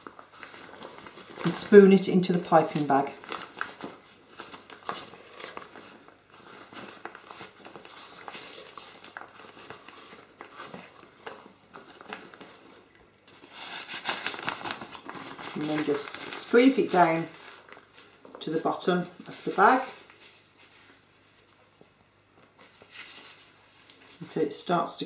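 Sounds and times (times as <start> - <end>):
piping bag crinkling: 0.0 - 21.6.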